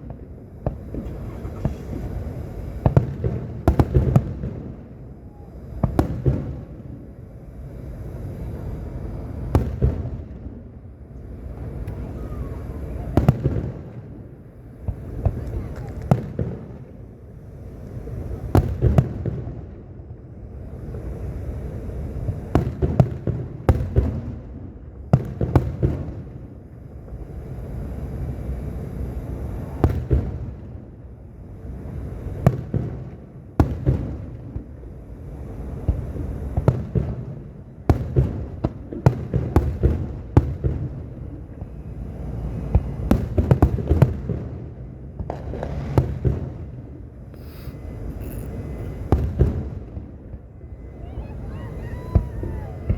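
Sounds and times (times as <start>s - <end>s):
fireworks cracks and bangs: 0.0s - 31.0s, 31.9s - 52.9s.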